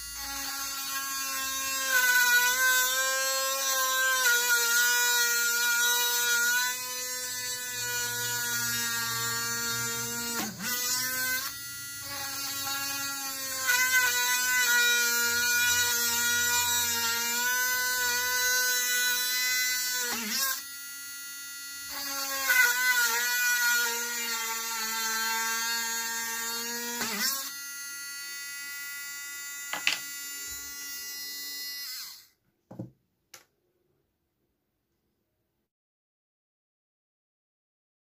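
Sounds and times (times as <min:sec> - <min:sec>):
small drill motor whining: 0:00.0 - 0:32.4.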